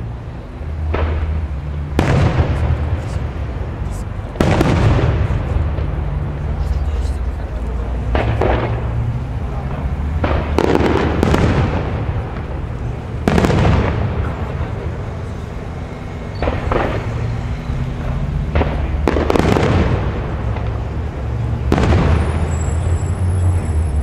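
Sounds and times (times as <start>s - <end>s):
firework shells booming: 0.8s - 6.6s, 8.0s - 15.4s, 16.2s - 23.7s.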